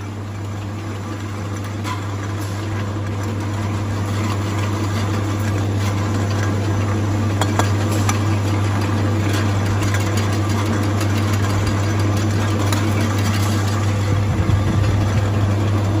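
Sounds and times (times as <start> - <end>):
machine motor humming: 0.0 - 16.0.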